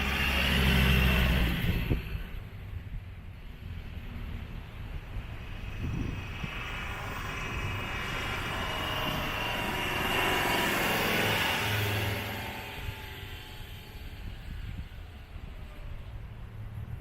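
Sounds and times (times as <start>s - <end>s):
off-road vehicle driving on sand: 0.0s - 17.0s.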